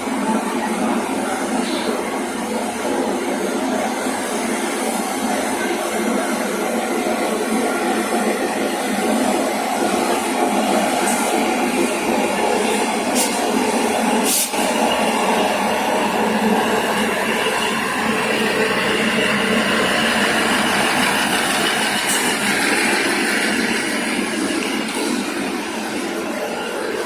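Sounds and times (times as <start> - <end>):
train wheels running on track: 0.0 - 27.0.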